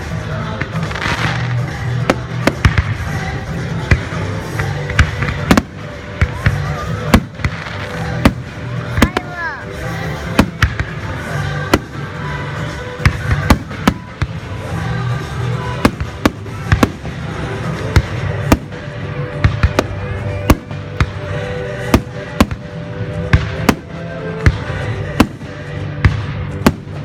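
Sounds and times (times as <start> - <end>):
fireworks bangs: 0.0 - 27.0
music playing: 0.0 - 27.0.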